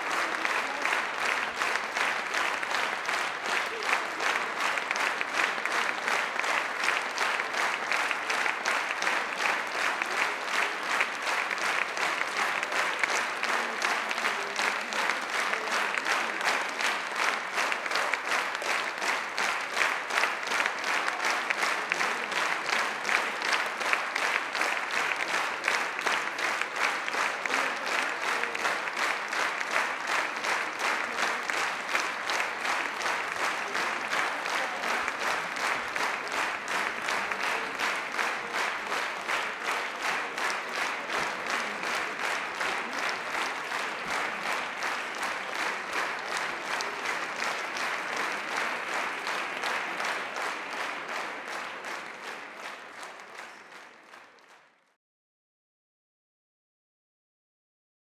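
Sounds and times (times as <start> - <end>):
audience applauding: 0.0 - 55.0.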